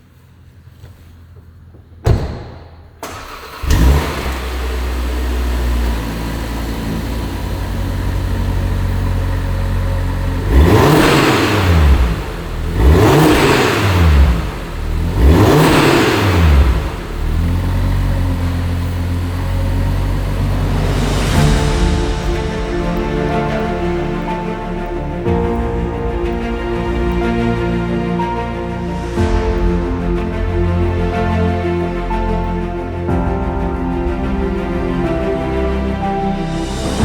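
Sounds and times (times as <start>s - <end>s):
car engine starting and revving: 0.0s - 37.0s.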